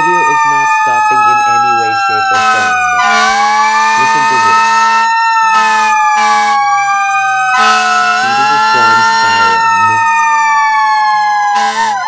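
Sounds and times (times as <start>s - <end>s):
siren wail: 0.0s - 12.0s.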